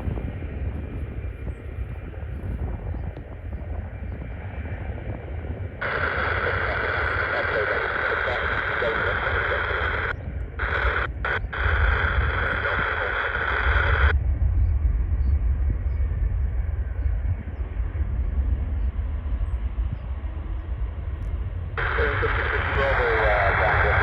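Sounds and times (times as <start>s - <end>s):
jet engine whine: 0.0s - 24.0s
low engine rumble: 0.0s - 24.0s
wind on microphone: 0.0s - 24.0s.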